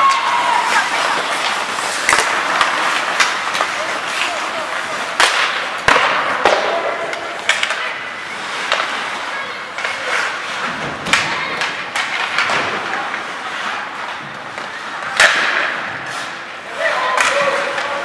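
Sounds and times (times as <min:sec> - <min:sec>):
hockey stick hitting puck: 0:00.0 - 0:18.0
skates scraping on ice: 0:00.0 - 0:18.0.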